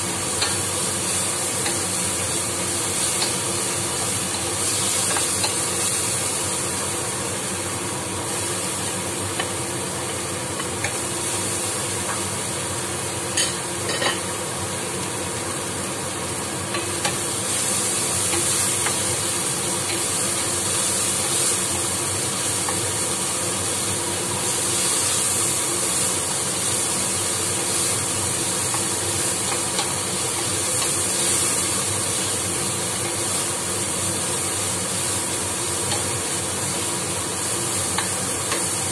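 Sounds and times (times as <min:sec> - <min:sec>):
vegetables sizzling in a pan: 0:00.0 - 0:38.9.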